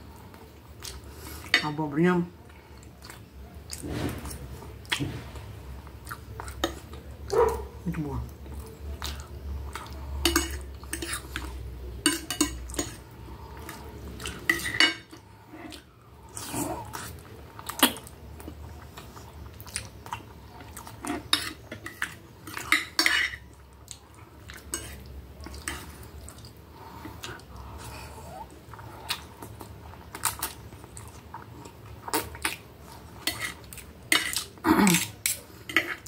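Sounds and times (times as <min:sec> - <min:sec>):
eating sounds: 0:02.4 - 0:36.0.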